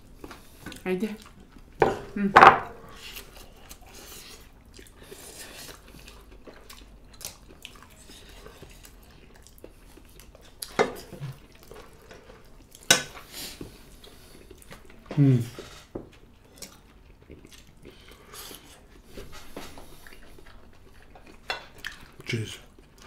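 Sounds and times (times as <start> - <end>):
chewing and mouth sounds: 3.0 - 15.2, 16.1 - 23.0.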